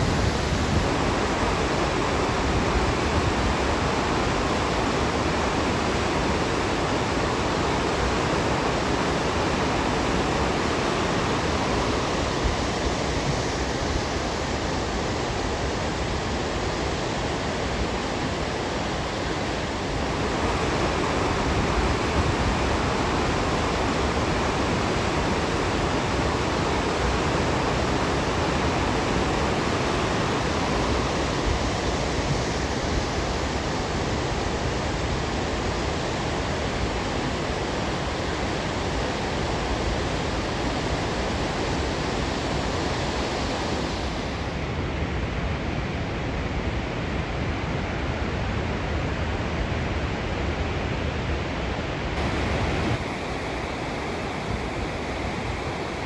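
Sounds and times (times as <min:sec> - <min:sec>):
river water rushing over rocks: 0:00.0 - 0:45.0, 0:51.2 - 0:56.0.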